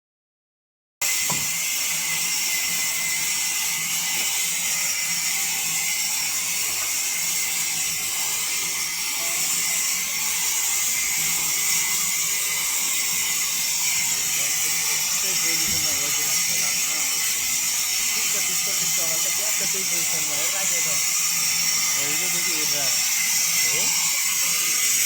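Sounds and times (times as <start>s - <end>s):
sawmill saw hissing: 1.0s - 25.0s.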